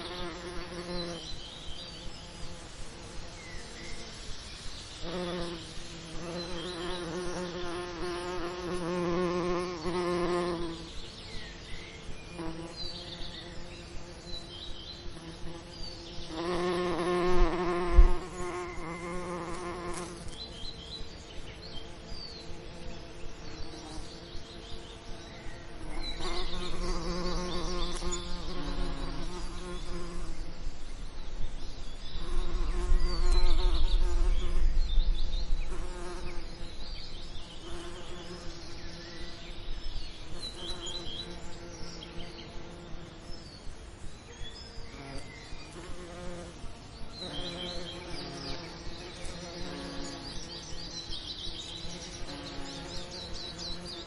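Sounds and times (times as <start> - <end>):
bees buzzing: 0.0 - 4.2, 4.9 - 11.2, 12.1 - 30.6, 32.0 - 39.6, 44.9 - 54.0
other insects: 0.0 - 54.0
birds chirping and singing: 3.3 - 46.5, 47.1 - 54.0.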